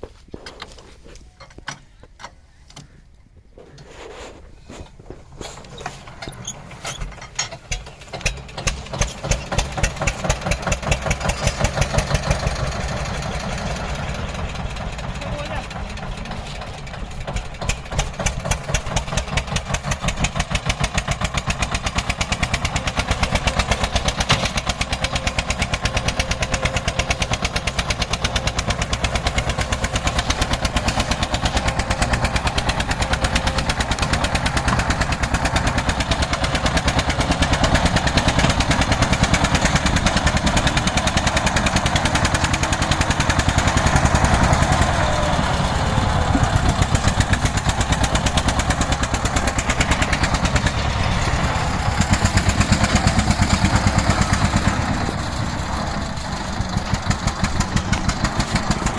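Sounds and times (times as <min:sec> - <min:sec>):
tractor diesel engine chugging: 0:00.6 - 0:58.9.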